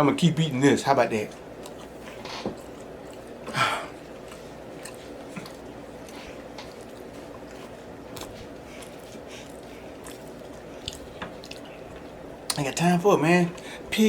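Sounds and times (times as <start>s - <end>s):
person chewing wet mouth sounds: 1.3s - 12.7s.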